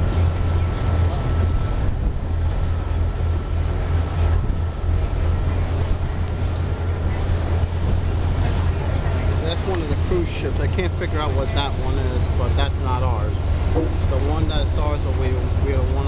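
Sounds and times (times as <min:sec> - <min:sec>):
ferry engine droning: 0:00.0 - 0:16.0
water rushing past hull: 0:00.0 - 0:16.0
wind buffeting microphone: 0:00.0 - 0:16.0.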